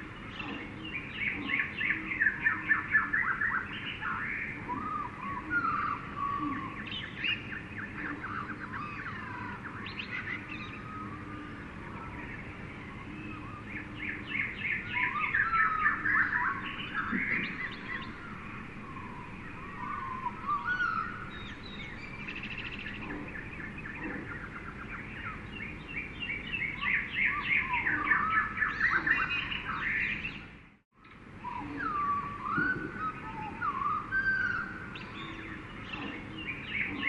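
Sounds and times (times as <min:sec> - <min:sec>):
birds chirping and trilling: 0:00.0 - 0:37.0
steady background hiss: 0:00.0 - 0:37.0.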